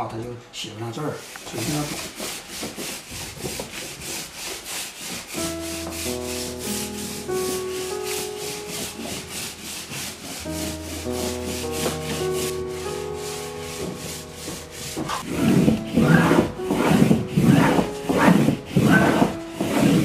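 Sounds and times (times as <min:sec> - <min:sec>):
hand rubbing paper: 0:01.2 - 0:20.0.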